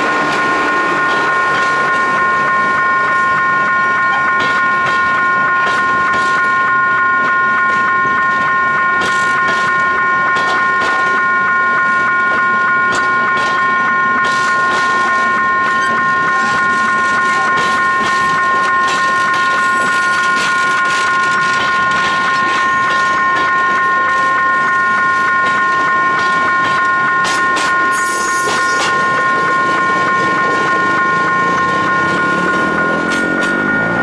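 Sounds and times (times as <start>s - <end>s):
train wheels clacking on rails: 0.0s - 3.1s, 4.1s - 11.3s, 12.2s - 24.8s, 25.4s - 34.0s
high ringing tone: 0.0s - 34.0s.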